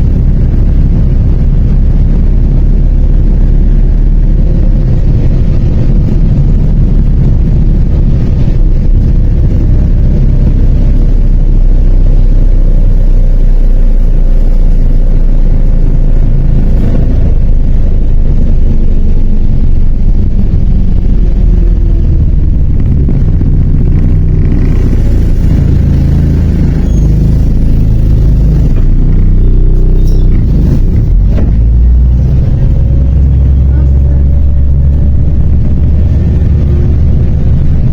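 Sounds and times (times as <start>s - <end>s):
bus engine and road rumble: 0.0s - 37.9s.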